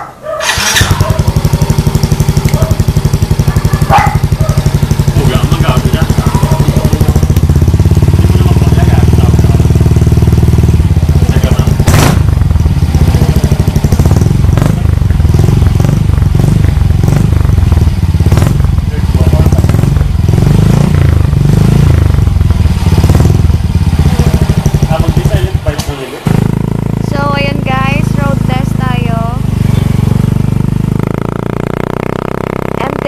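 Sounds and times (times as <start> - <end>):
scooter engine revving: 0.0 - 33.0.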